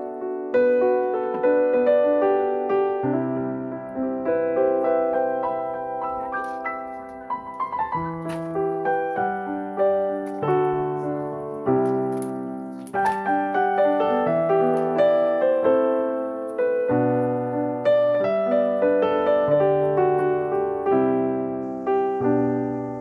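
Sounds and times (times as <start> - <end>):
slow gentle piano music: 0.0 - 23.0.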